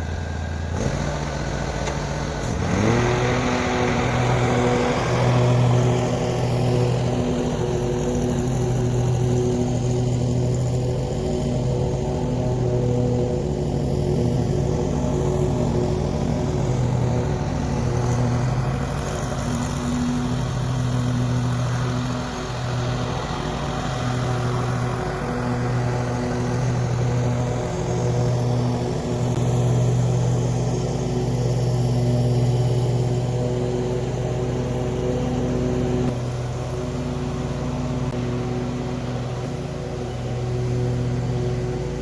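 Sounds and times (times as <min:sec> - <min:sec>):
small petrol engine running: 0:00.0 - 0:42.0.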